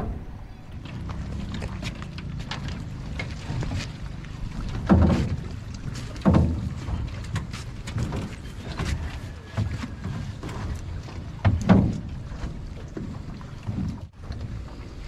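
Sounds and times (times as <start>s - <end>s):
heavy footsteps landing in boat: 0.0s - 14.2s
wind rumbling on microphone: 0.0s - 15.0s.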